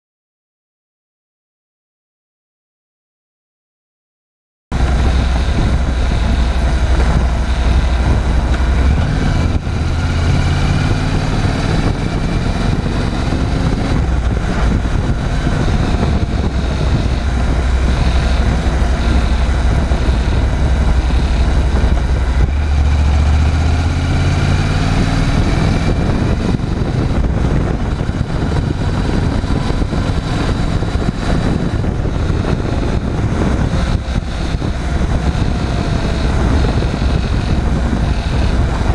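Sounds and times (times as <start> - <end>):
motorcycle engine running: 4.7 - 38.9.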